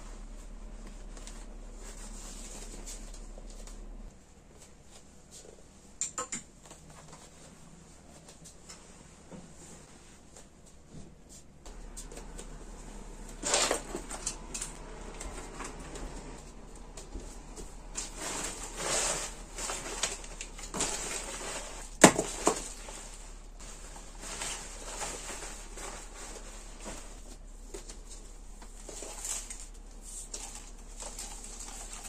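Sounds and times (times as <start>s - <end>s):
fabric rustling and handling: 0.0s - 32.0s.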